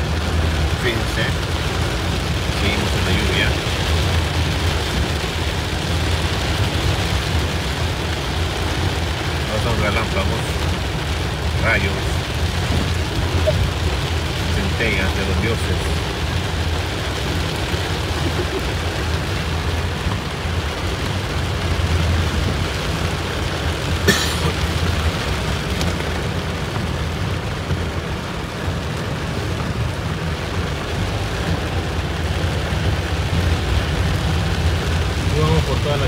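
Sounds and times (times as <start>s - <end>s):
engine and road noise rumble: 0.0s - 36.0s
heavy rain on car body: 0.0s - 36.0s.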